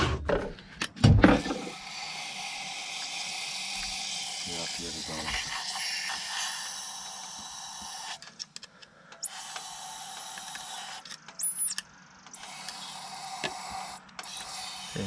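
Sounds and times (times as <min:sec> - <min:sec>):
aerosol spray can hissing: 0:01.6 - 0:08.2, 0:09.2 - 0:15.0.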